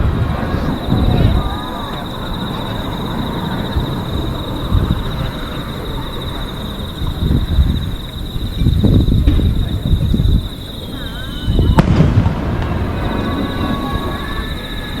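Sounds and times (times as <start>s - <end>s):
fireworks bursting: 0.0s - 15.0s
high pulsing chirr: 0.0s - 15.0s.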